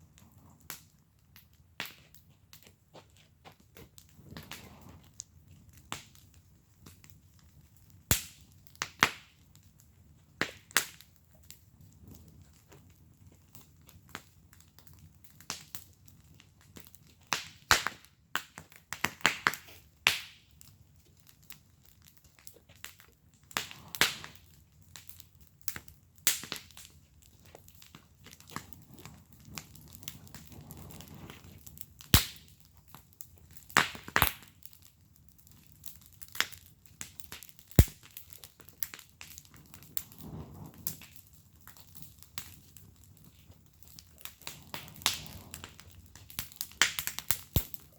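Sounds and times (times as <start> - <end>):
flames rushing: 0.0 - 18.0, 19.0 - 47.9
wood fire crackling and popping: 0.0 - 47.9.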